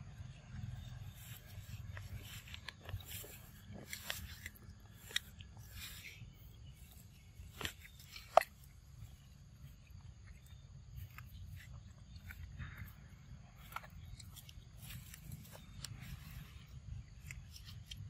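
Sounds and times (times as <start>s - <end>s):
monkey chewing crisp fruit: 0.3s - 18.0s.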